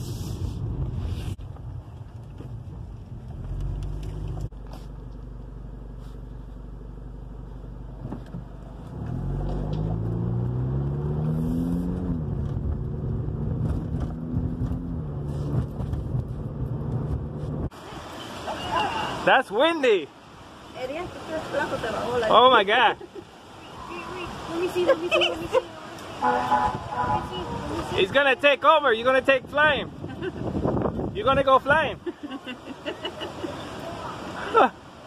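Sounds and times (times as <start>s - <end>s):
car engine: 0.0s - 31.8s
road noise: 0.0s - 35.0s.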